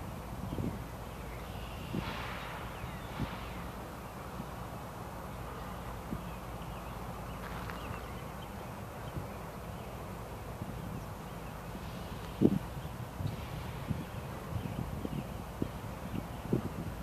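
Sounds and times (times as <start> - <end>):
birds chirping faintly: 0.0 - 17.0
distant diesel locomotive rumble: 0.0 - 17.0.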